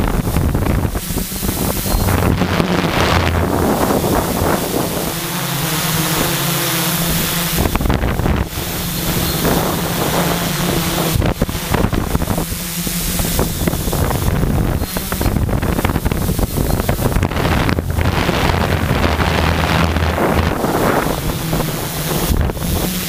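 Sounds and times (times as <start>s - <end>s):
drone motors humming: 0.0s - 23.0s
wind buffeting microphone: 0.0s - 23.0s.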